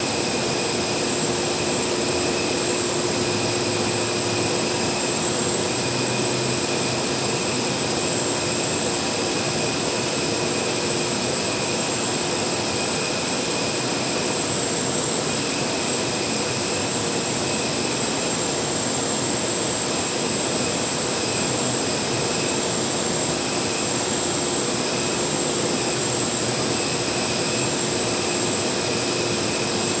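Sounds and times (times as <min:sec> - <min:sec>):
jet engine running steadily: 0:00.0 - 0:30.0.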